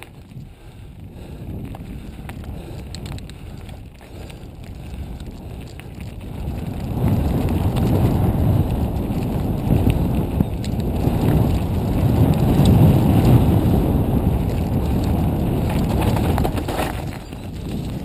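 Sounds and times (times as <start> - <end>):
bike rattles and clicks: 0.0 - 18.0
bike tyres rumbling on trail: 0.0 - 18.0
wind on microphone: 0.0 - 18.0.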